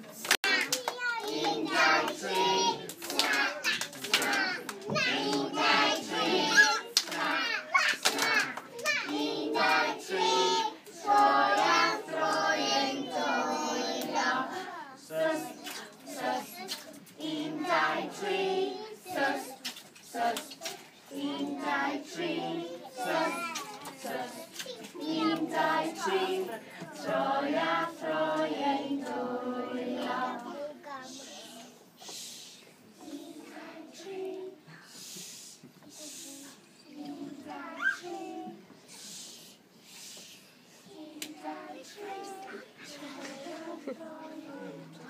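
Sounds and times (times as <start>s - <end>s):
young children singing: 0.2s - 32.3s, 33.0s - 34.7s, 35.8s - 39.1s, 40.1s - 45.0s.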